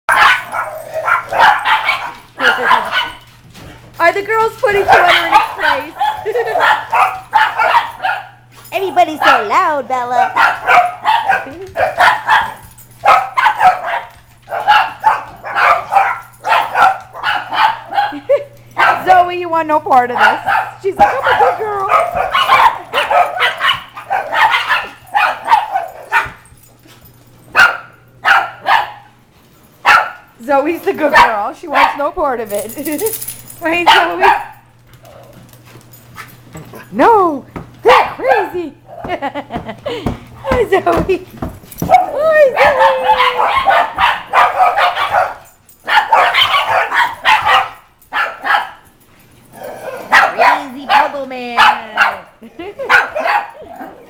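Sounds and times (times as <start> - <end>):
small dogs barking and yapping: 0.1 - 54.0.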